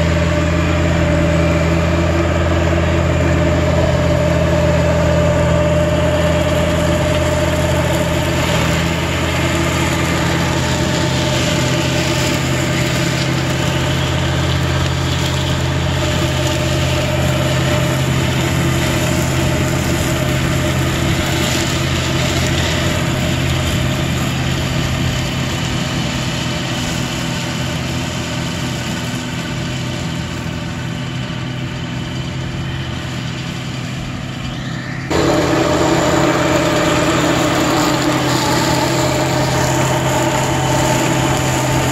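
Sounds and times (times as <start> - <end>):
flail mower cutting grass: 0.0 - 41.9
tractor diesel engine running: 0.0 - 41.9.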